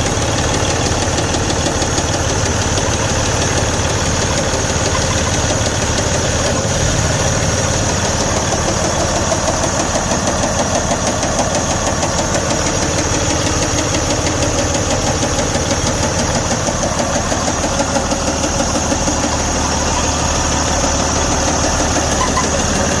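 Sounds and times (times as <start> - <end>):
diesel engine idling: 0.0 - 23.0
rhythmic engine knocking: 0.0 - 23.0.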